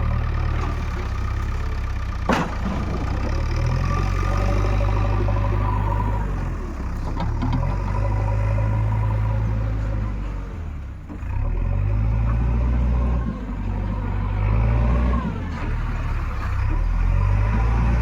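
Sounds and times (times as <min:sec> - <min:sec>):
heavy diesel engine under load: 0:00.0 - 0:18.0.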